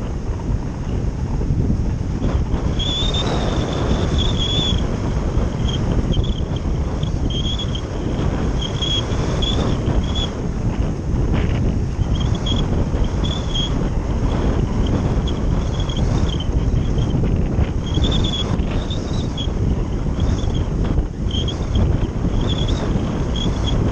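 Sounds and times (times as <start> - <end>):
wind rushing over microphone: 0.0 - 23.9.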